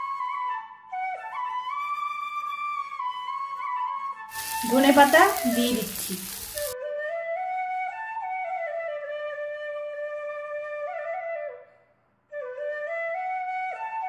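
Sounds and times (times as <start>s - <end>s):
solo flute melody: 0.0s - 14.0s.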